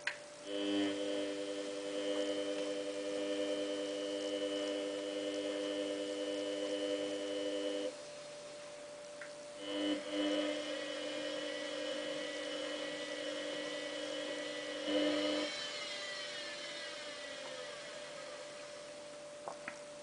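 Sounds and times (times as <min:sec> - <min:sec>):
washing machine drum motor whining: 0:00.0 - 0:08.0, 0:09.4 - 0:20.0.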